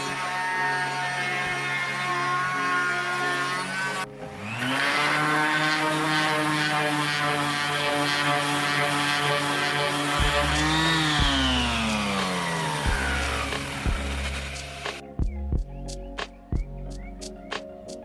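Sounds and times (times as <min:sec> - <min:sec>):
electric power tool motor running: 0:00.0 - 0:15.0.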